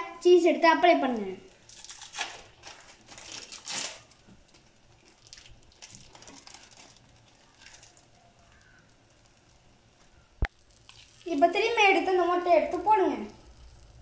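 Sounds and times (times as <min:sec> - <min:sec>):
egg frying crackling and spitting: 0:00.2 - 0:14.0.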